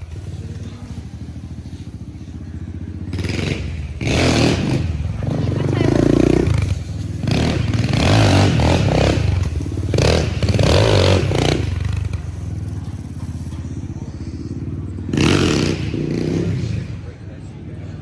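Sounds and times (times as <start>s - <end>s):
motorcycle engines running: 0.0s - 18.0s.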